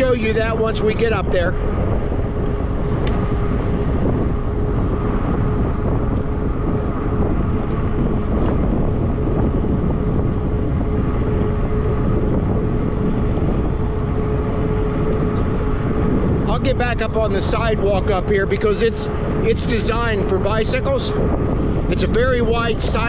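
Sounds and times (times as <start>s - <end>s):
bike tire road noise: 0.0s - 23.0s
steady hum: 0.0s - 23.0s
wind rushing over microphone: 0.0s - 23.0s.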